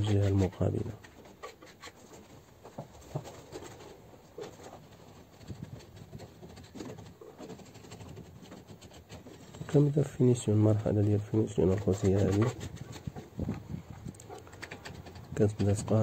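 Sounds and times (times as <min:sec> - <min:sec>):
scraping and rubbing plaster: 0:00.0 - 0:16.0.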